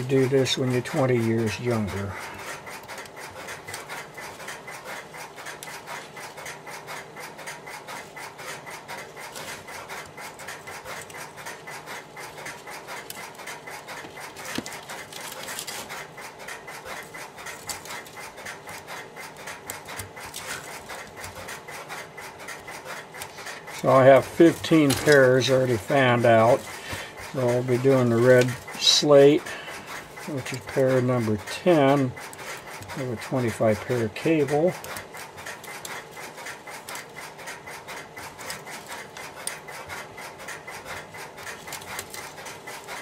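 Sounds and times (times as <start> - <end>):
wires rubbing and scratching: 0.0 - 43.0.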